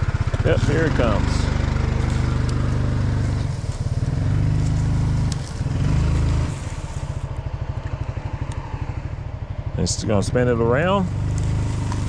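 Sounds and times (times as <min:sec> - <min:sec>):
utility vehicle engine revving: 0:00.0 - 0:12.0.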